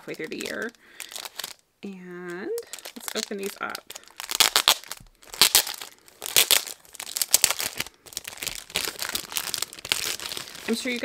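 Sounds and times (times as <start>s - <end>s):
cellophane wrapping crinkling: 0.0s - 1.6s, 2.2s - 11.0s.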